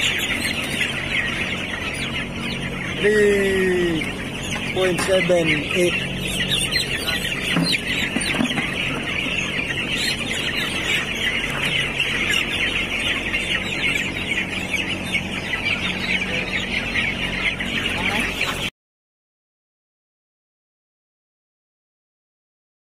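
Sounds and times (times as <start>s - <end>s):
chicks peeping: 0.0s - 18.7s.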